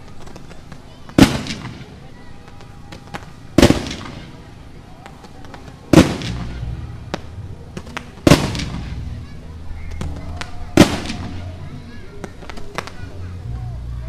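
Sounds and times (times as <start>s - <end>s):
fireworks pops and crackles: 0.0s - 11.6s, 12.2s - 13.1s
fireworks booming: 0.0s - 13.1s.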